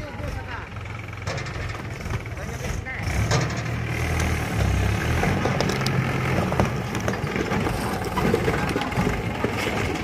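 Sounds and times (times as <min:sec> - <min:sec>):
tractor diesel engine under load: 0:00.0 - 0:10.0
rattles and clicks: 0:01.2 - 0:10.0.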